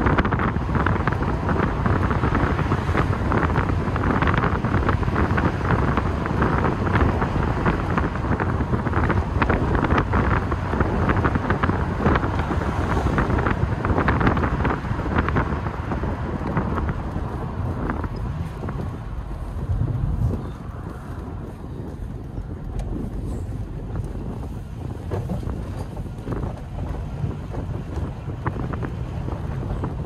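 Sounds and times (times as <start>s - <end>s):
car engine and tyre noise: 0.0s - 30.0s
wind buffeting microphone: 0.0s - 30.0s.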